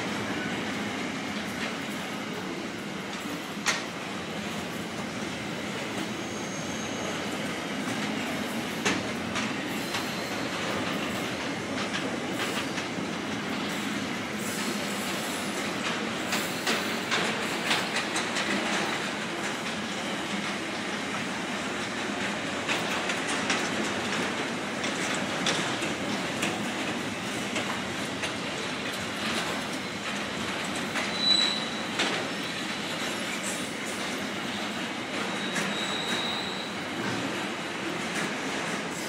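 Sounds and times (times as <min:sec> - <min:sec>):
sharp clacks from train wheels: 0:00.0 - 0:39.0
train wheels rumbling on rail: 0:00.0 - 0:39.0.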